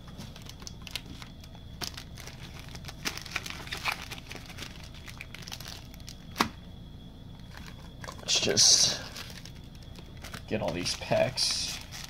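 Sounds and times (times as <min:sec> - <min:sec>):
wrappers crinkling: 0:00.0 - 0:06.5, 0:07.4 - 0:12.0.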